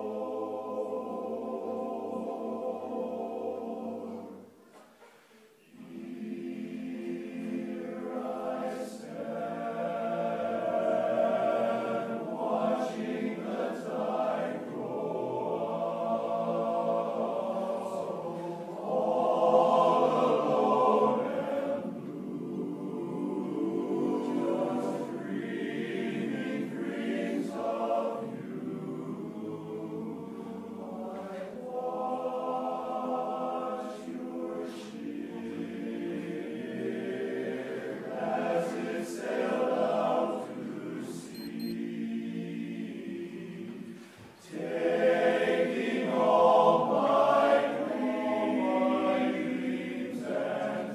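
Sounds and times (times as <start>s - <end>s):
men's chorus singing a cappella: 0.0s - 4.5s, 5.6s - 50.9s.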